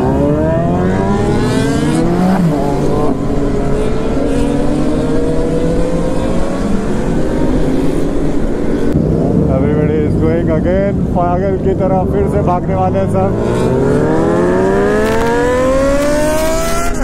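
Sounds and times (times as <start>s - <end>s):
low wind rush: 0.0s - 17.0s
motorcycle engine accelerating: 0.0s - 17.0s.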